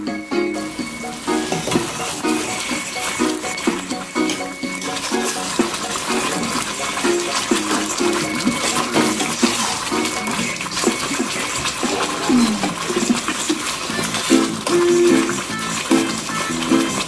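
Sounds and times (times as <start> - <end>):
background music: 0.0 - 17.0
sauce bubbling in saucepan: 0.0 - 17.0
spoon stirring: 0.5 - 17.0.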